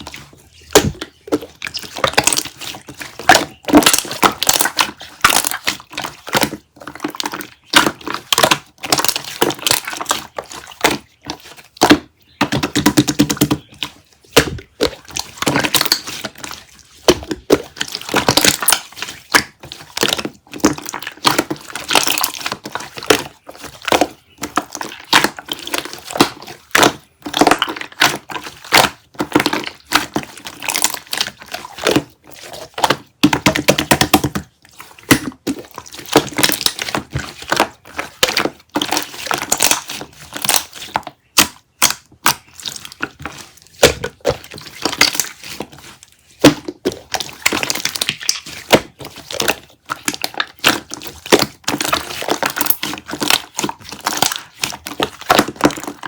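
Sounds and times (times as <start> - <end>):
crunching and crackling: 0.0 - 56.0.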